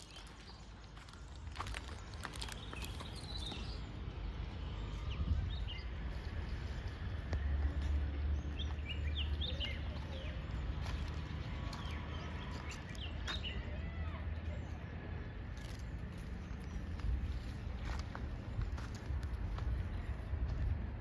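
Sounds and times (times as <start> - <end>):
birds chirping: 0.0 - 21.0
low outdoor rumble: 0.0 - 21.0.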